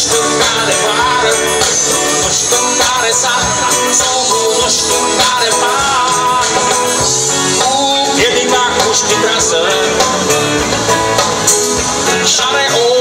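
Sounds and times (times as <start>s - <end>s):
live rock band through loudspeakers: 0.0s - 13.0s.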